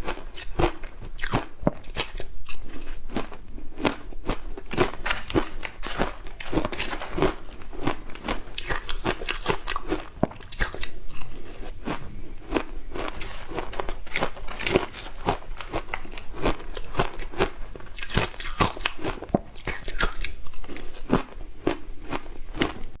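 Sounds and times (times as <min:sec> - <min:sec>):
ice being bitten and chewed: 0:00.0 - 0:23.0.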